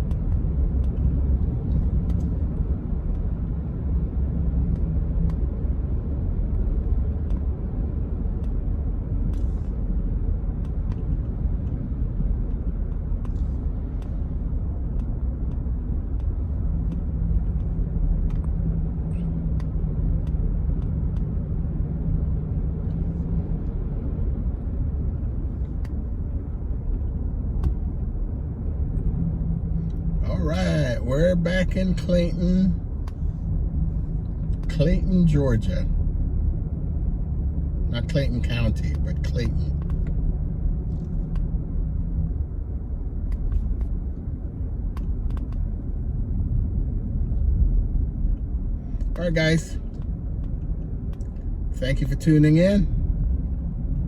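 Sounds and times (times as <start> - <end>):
faint engine hum: 0.0 - 54.0
vehicle road rumble: 0.0 - 54.0.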